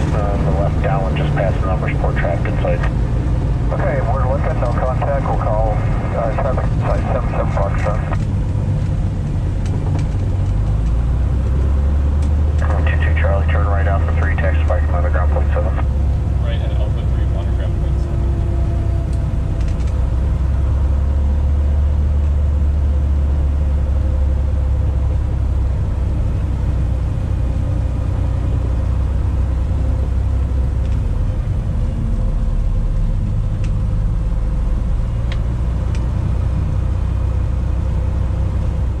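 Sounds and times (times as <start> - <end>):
piston engine and propeller drone: 0.0 - 39.0.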